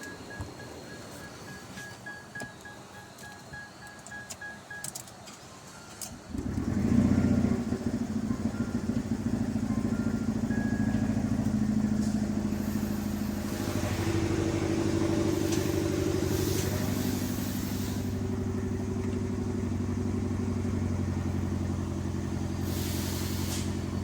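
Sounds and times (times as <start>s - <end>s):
petrol engine starting and idling: 0.0s - 24.0s.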